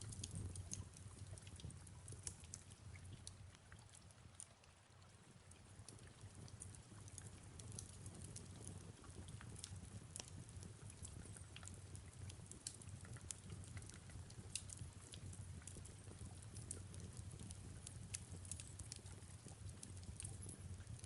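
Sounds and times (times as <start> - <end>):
soft rain: 0.0 - 21.0
fireplace crackling: 0.1 - 4.0, 5.8 - 21.0.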